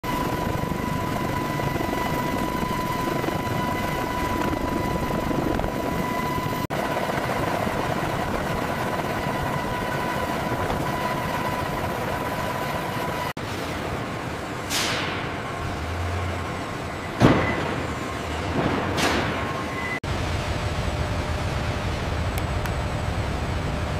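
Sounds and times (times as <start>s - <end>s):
steady high whine: 0.0s - 18.4s, 19.6s - 23.9s
helicopter rotor and engine: 0.0s - 23.9s.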